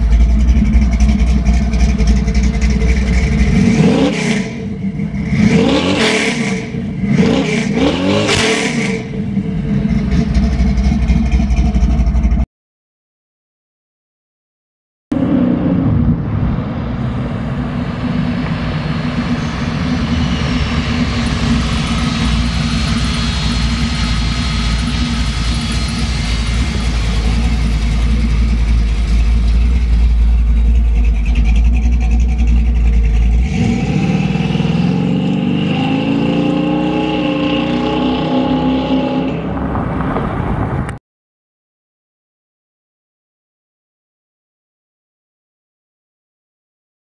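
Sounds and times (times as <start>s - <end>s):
car engine rumbling and revving: 0.0s - 12.4s, 15.1s - 41.0s.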